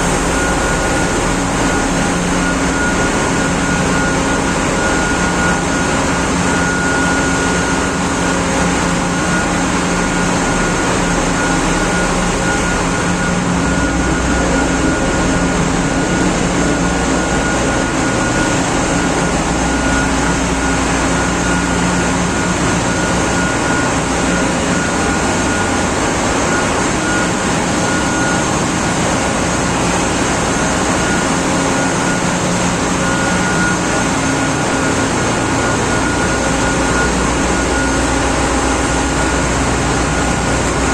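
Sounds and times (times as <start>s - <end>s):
engine room machinery din: 0.0s - 40.9s
thin steady whine: 0.0s - 40.9s.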